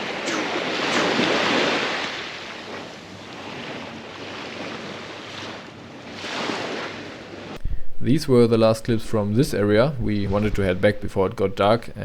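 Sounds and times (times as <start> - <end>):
ocean waves breaking on shore: 0.0 - 11.8.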